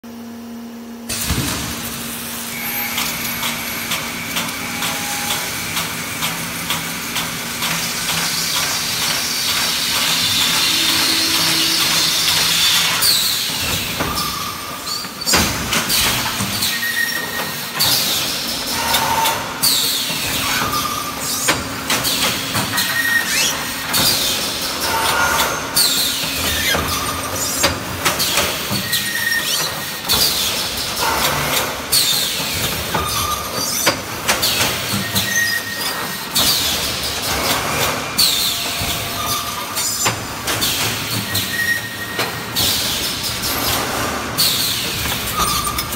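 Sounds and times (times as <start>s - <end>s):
welding machine running: 1.0s - 45.9s.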